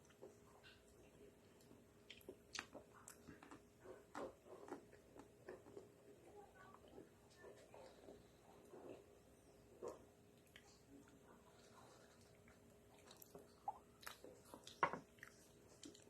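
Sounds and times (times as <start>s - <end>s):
chewing and wet mouth sounds: 0.0s - 16.0s.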